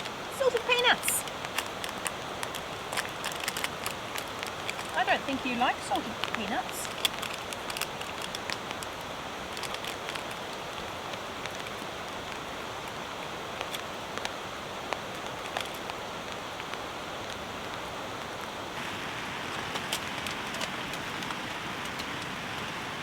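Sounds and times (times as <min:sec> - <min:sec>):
sharp ticks of rain: 0:00.0 - 0:23.0
steady rain hiss: 0:00.0 - 0:23.0.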